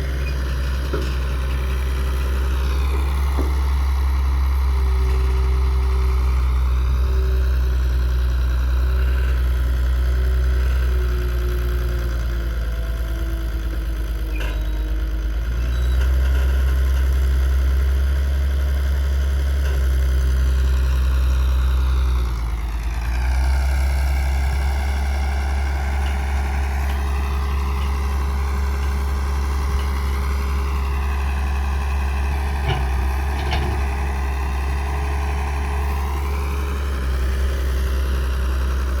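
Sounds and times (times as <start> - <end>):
diesel engines running: 0.0 - 39.0.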